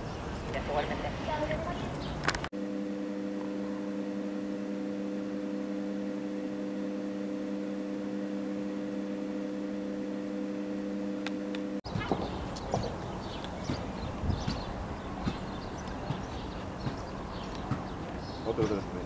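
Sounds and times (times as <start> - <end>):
electrical hum: 0.0 - 19.0
outdoor background noise: 0.0 - 19.0.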